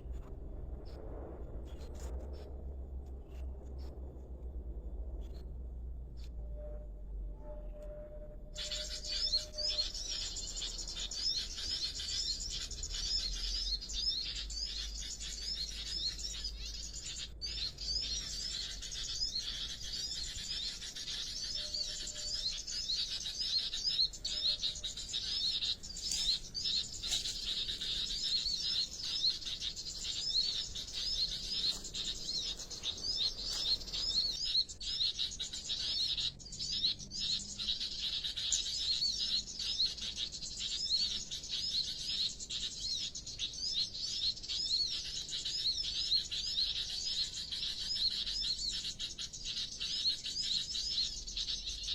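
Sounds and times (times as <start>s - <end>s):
small birds chirping: 7.5s - 51.9s.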